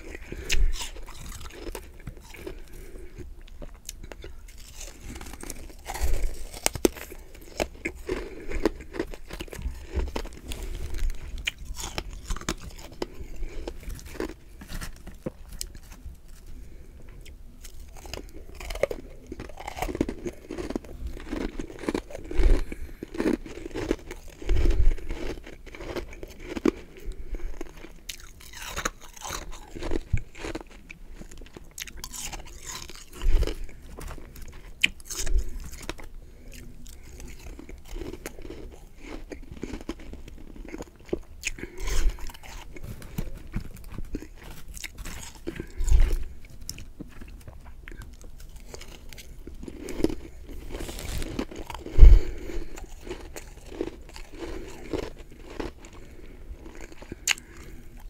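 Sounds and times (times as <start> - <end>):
chewing crunchy frost: 0.0 - 58.0.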